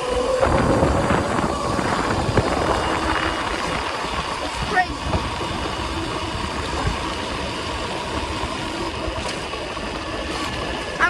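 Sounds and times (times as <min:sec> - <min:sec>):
electric motor whine: 0:00.0 - 0:11.0
wind and tyre rumble: 0:00.0 - 0:11.0.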